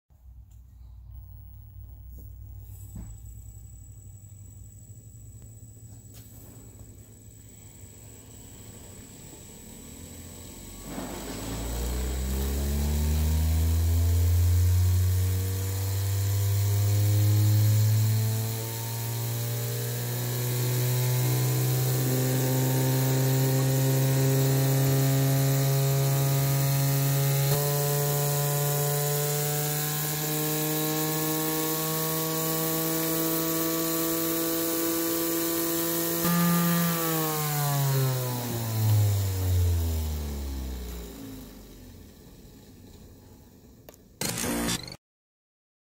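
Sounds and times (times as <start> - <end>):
electric motor humming: 3.5 - 42.2, 43.8 - 45.0.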